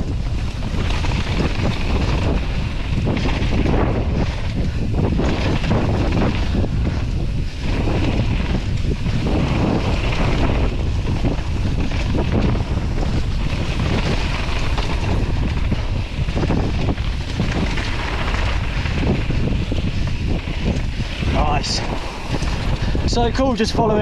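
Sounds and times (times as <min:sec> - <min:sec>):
bike knocks and rattles: 0:00.0 - 0:23.5
bike tyres rumbling on dirt: 0:00.0 - 0:24.0
wind buffeting microphone: 0:00.0 - 0:24.0.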